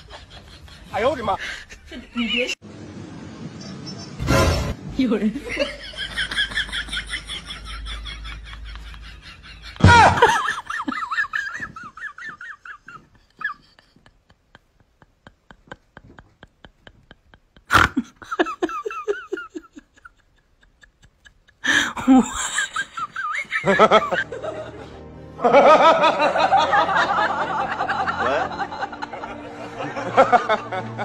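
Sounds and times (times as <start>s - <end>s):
people laughing: 0.0s - 2.6s, 5.4s - 31.0s.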